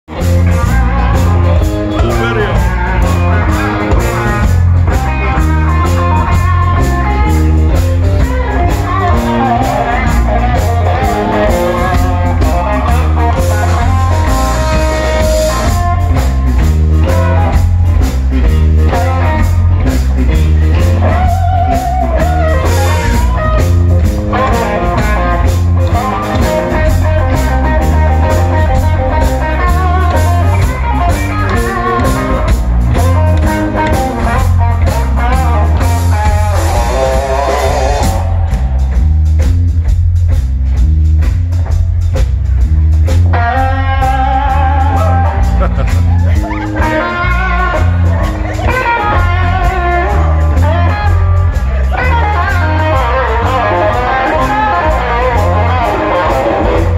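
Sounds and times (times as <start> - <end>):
lead guitar bending notes: 0.1 - 40.1, 40.7 - 56.9
live blues rock band: 0.1 - 56.9.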